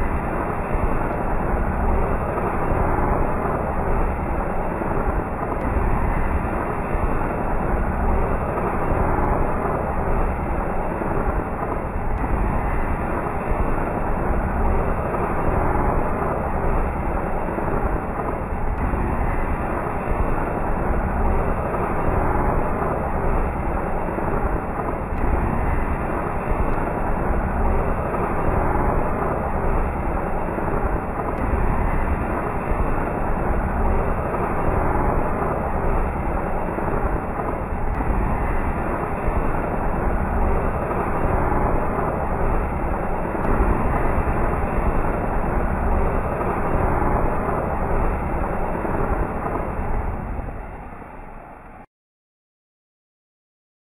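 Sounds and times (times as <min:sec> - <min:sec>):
ground spinner firework fizzing: 0:00.0 - 0:51.1.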